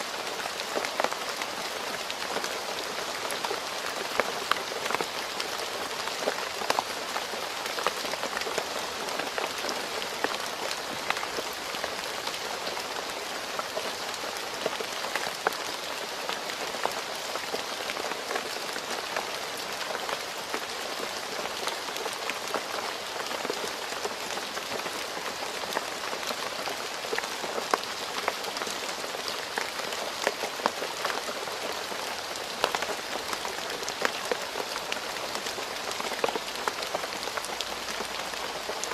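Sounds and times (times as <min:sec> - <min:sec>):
rain falling on road: 0:00.0 - 0:38.9.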